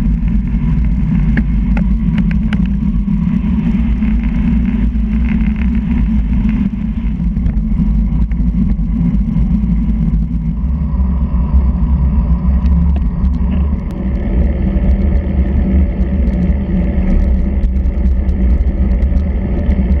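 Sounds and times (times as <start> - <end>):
tyre road noise: 0.0 - 20.0
wind buffeting microphone: 0.0 - 20.0.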